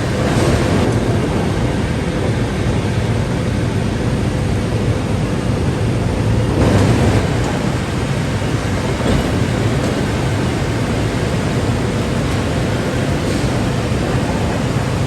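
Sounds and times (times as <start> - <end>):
steel mill machinery rumble and hiss: 0.0 - 15.0.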